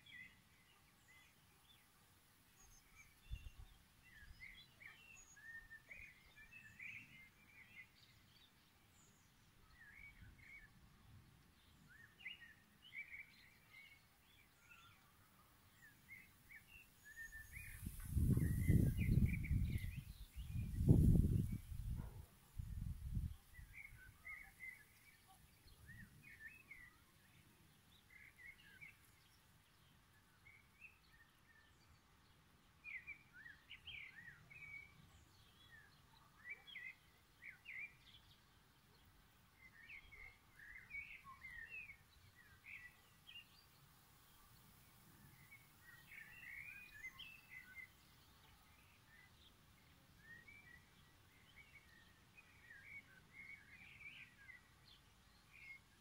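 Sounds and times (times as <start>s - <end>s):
faint birdsong chirps and twitters: 0.0s - 56.0s.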